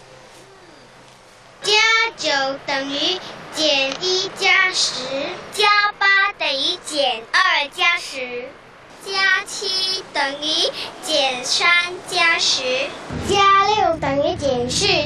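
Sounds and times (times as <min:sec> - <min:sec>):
child singing: 0:01.6 - 0:15.0.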